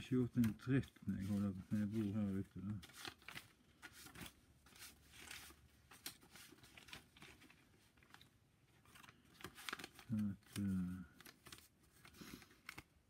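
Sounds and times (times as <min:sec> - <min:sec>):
faint rustles and clicks of handling: 0:00.0 - 0:13.0.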